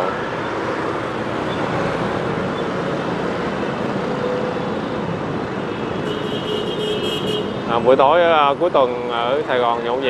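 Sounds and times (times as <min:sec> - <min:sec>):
city street traffic: 0:00.0 - 0:10.0.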